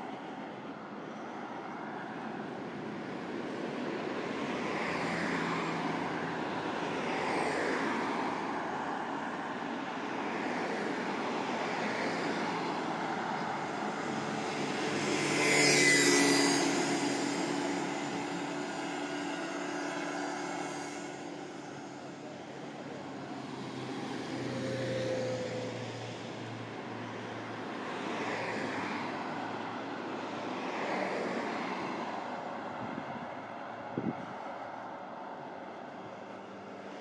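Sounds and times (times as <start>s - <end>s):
vehicles passing: 0.0s - 37.0s.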